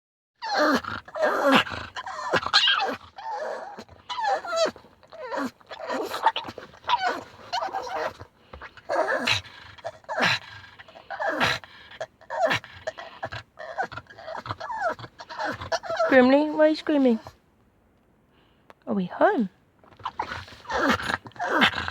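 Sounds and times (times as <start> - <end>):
dog whining cries: 0.4 - 17.4, 19.9 - 21.9.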